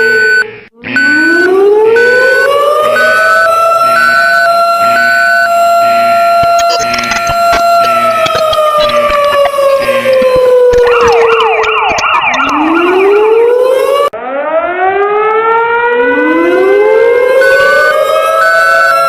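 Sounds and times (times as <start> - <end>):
wailing alarm sirens: 0.0 - 19.0.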